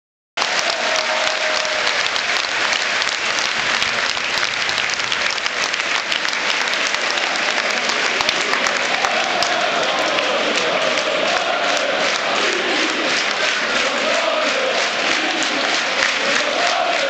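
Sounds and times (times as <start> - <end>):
stadium crowd applauding: 0.4 - 17.0.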